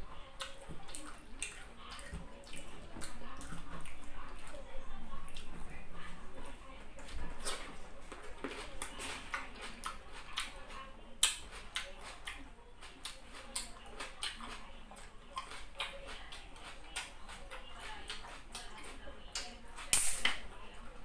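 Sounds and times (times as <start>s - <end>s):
open-mouthed chewing: 0.0s - 21.0s.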